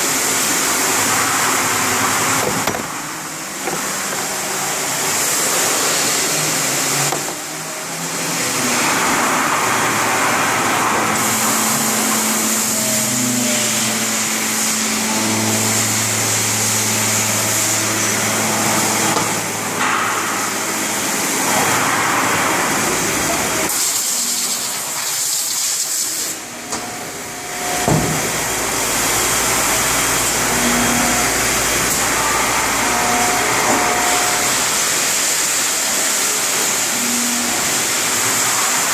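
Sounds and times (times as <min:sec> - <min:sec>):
cnc machine running: 0:00.0 - 0:38.9.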